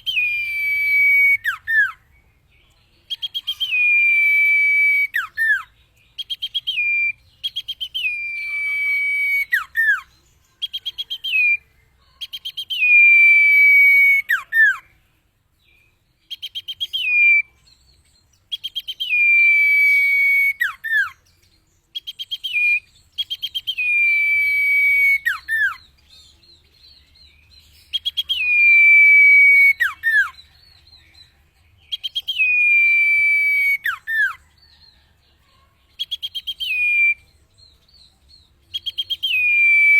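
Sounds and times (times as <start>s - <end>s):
bird singing whistled phrases: 0.0s - 2.2s, 3.1s - 14.9s, 15.7s - 35.0s, 36.0s - 39.9s.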